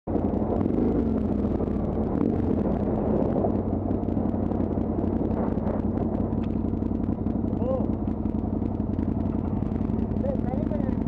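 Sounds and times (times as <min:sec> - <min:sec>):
motorcycle engine running: 0:00.1 - 0:11.0
stones ticking under tyres: 0:00.6 - 0:11.0.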